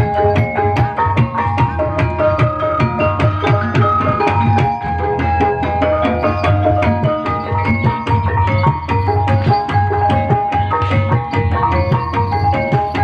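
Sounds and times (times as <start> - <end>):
hand drums beating quick rhythm: 0.0 - 13.0
struck metallophone melody: 0.0 - 13.0.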